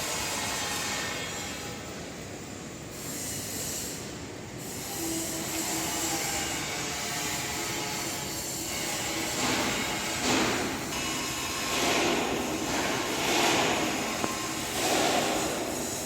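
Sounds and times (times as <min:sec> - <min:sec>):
industrial machinery noise: 0:00.0 - 0:16.0
hiss: 0:02.9 - 0:16.0.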